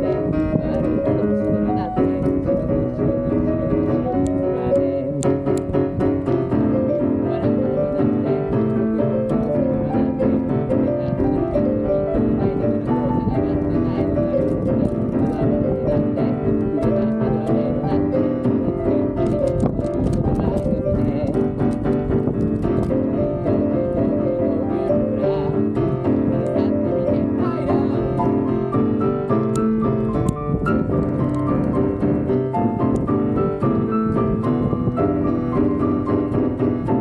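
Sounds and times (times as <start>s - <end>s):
piano-like keyboard playing: 0.0s - 37.0s.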